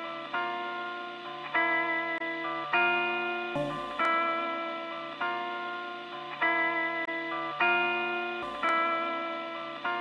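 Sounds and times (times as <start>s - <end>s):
guitar chords ringing: 0.0s - 10.0s.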